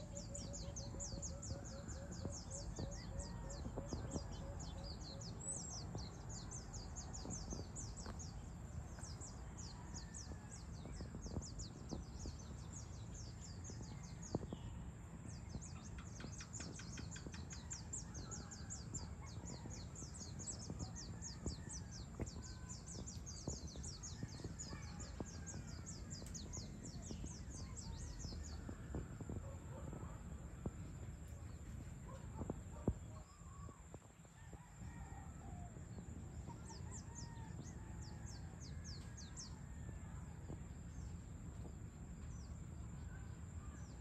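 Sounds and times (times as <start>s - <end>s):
chorus of birds chirping: 0.0s - 44.0s
low steady rumble: 0.0s - 44.0s.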